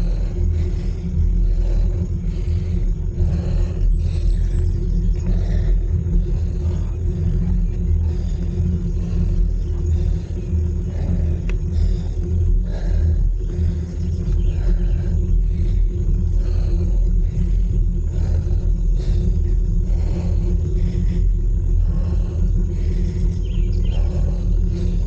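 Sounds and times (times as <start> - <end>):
faint steady hum: 0.0 - 25.0
wind and road noise rumble: 0.0 - 25.0.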